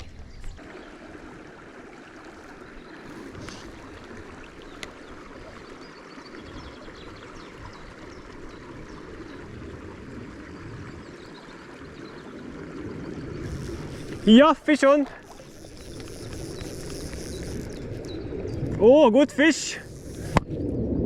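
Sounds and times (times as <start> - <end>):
river running over stones: 0.0 - 20.6.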